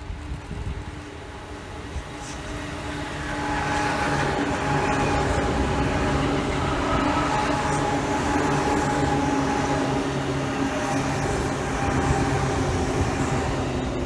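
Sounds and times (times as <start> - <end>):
electric train rumbling past: 0.0 - 14.0
train running gear whine: 0.0 - 14.0.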